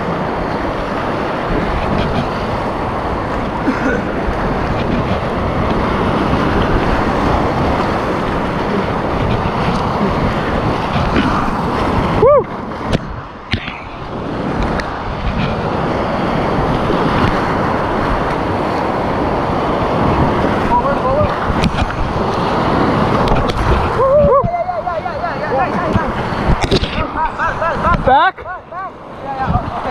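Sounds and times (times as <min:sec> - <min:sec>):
whitewater rapids rushing: 0:00.0 - 0:29.9.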